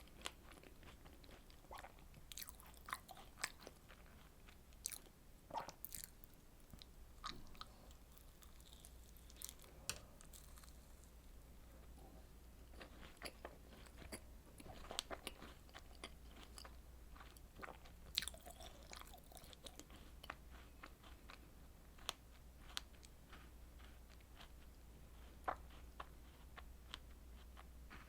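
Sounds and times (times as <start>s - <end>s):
person chewing wet clicks: 0.0s - 11.1s, 12.7s - 21.4s, 22.0s - 27.7s.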